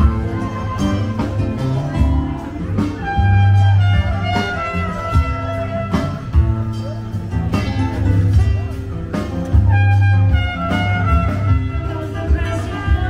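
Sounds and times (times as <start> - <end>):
jazzy music with bass and guitar: 0.0 - 13.0.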